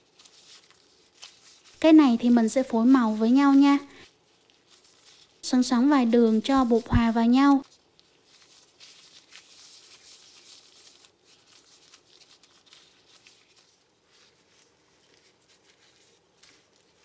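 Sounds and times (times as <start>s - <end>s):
plastic gloves crinkling: 0.0s - 17.0s.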